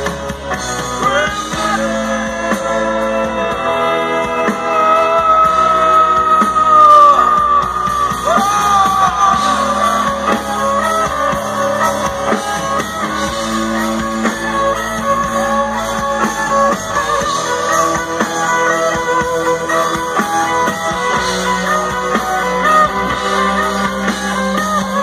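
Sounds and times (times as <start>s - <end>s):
live band playing: 0.0s - 25.0s
people singing: 0.9s - 25.0s.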